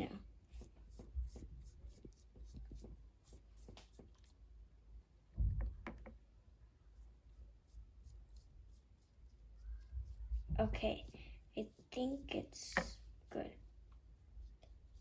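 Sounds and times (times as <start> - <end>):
paintbrush brushing on skin: 0.0 - 4.4, 6.9 - 15.0.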